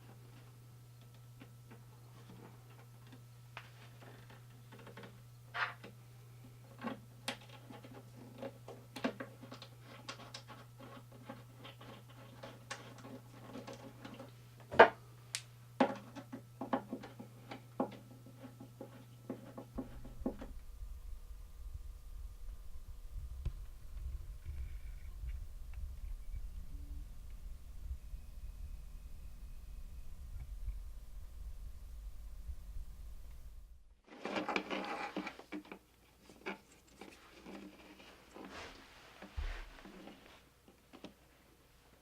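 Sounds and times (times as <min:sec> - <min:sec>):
steady low hum: 0:00.0 - 0:34.1.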